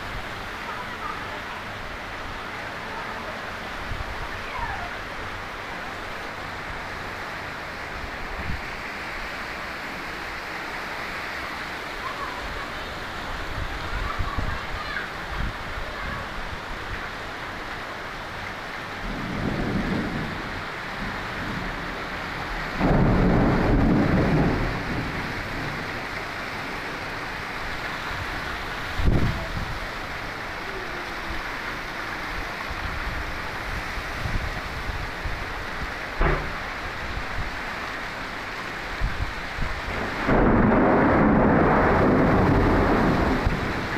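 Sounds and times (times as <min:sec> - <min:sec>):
rushing water in heavy rain: 0:00.0 - 0:43.9.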